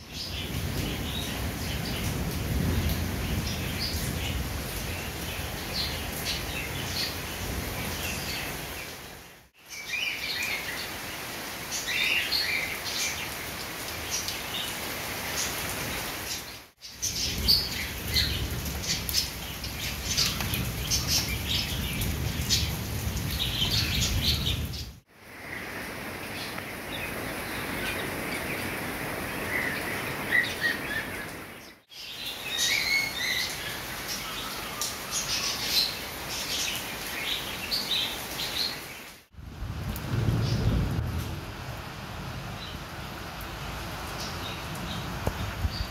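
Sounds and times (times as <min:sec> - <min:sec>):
rain on paving and metal: 0:00.0 - 0:45.9
birds chirping: 0:00.1 - 0:39.1.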